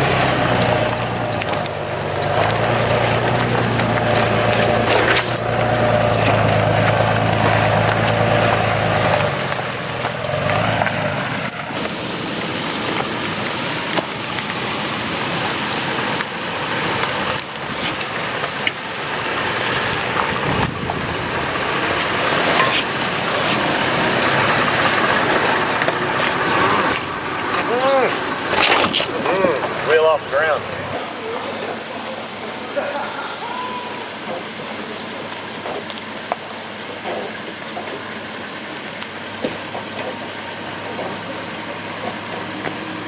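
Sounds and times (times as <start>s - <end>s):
rough road and tyre noise: 0.0s - 43.0s
truck engine droning: 0.0s - 43.0s.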